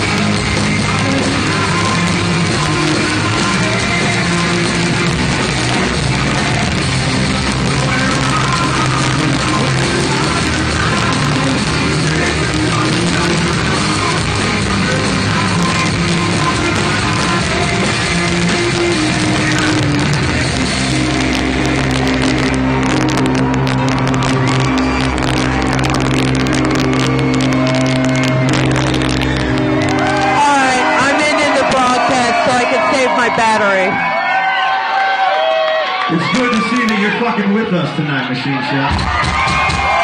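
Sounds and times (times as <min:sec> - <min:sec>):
drums: 0:00.0 - 0:34.1, 0:38.8 - 0:40.0
electric guitar: 0:00.0 - 0:36.7.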